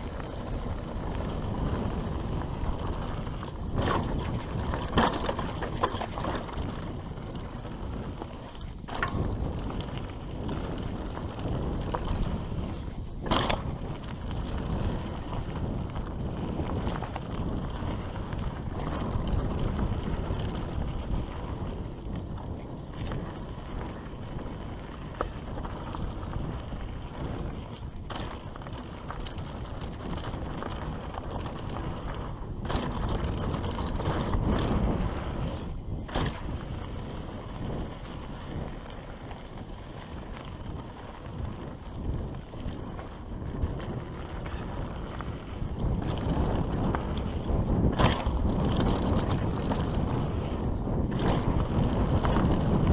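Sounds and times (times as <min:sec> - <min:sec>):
bike knocking and rattling: 0:00.0 - 0:52.9
bike tyres rolling over dirt: 0:00.0 - 0:52.9
wind buffeting microphone: 0:00.0 - 0:52.9.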